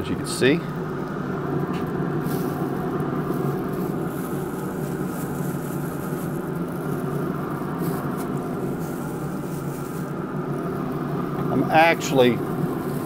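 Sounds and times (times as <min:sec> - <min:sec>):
smoker fan humming: 0:00.0 - 0:13.0.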